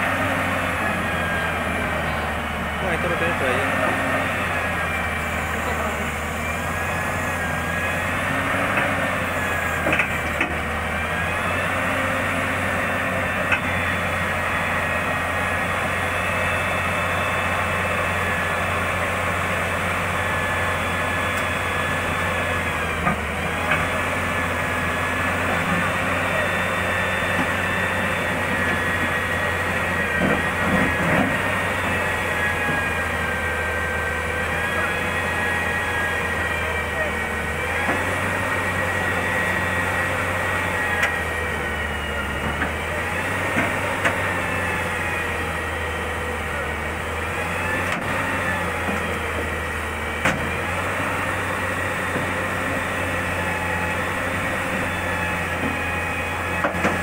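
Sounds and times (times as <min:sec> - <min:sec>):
excavator engine and hydraulics whining: 0:00.0 - 0:57.0.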